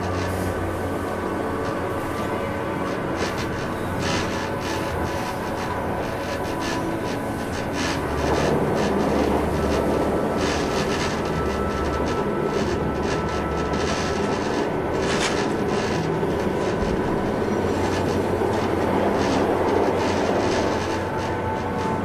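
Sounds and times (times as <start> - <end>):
faint steady whine: 0.0 - 22.0
train wheels rumbling on rails: 0.0 - 22.0.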